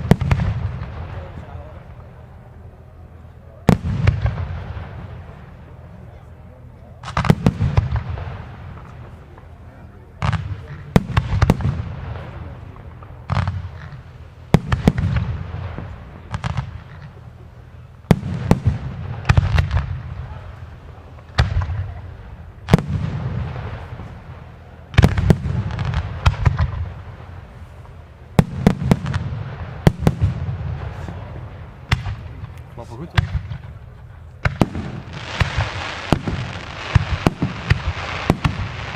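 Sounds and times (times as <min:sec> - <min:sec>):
fireworks bursting with bangs: 0:00.0 - 0:38.9
low rumbling echo: 0:00.0 - 0:38.9.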